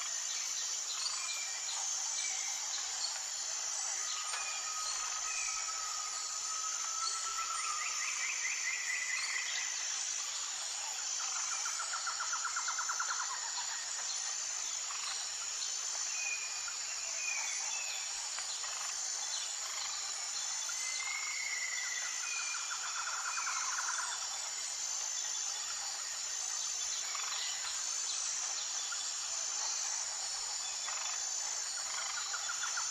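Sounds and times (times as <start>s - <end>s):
insects droning high-pitched: 0.0s - 32.9s.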